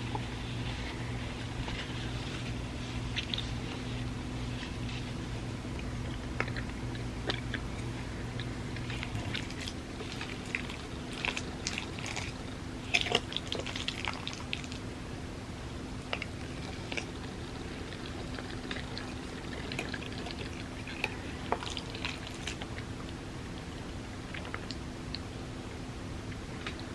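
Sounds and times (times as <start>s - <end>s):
wet chewing: 0.0s - 14.9s, 16.0s - 25.3s
steady low hum: 0.0s - 26.9s.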